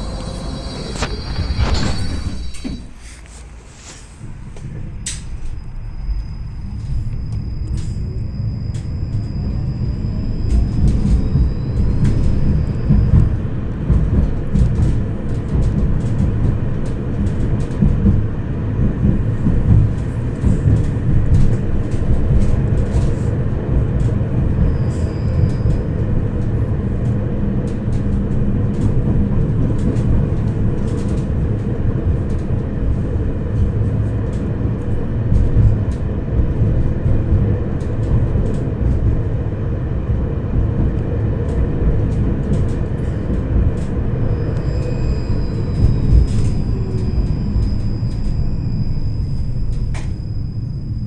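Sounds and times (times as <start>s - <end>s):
tram wheels rumbling on rails: 0.0s - 51.0s.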